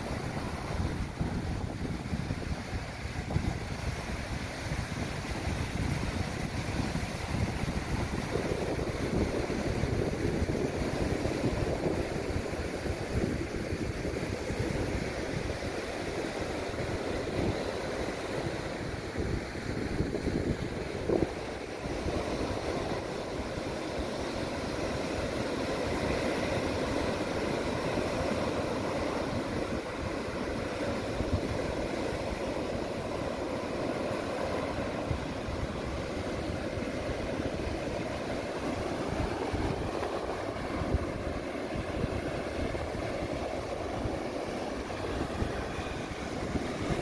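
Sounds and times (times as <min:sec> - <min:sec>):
waves breaking on beach: 0:00.0 - 0:47.0
wind buffeting microphone: 0:00.0 - 0:47.0.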